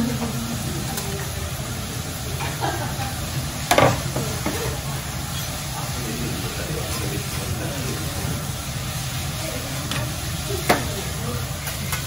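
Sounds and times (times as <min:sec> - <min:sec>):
hot oil sizzling on a griddle: 0:00.0 - 0:12.0.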